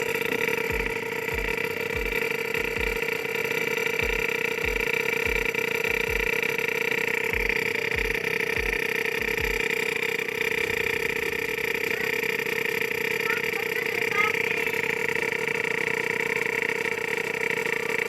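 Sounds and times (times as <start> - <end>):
air compressor humming and thumping: 0.0 - 18.0.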